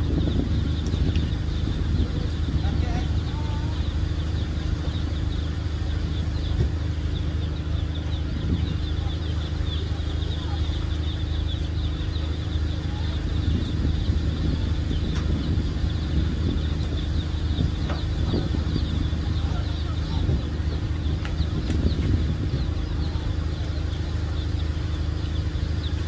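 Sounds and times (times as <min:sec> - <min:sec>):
faint crowd voices: 0:00.0 - 0:26.0
ferry engines idling: 0:00.0 - 0:26.0
high chirping: 0:00.0 - 0:26.0.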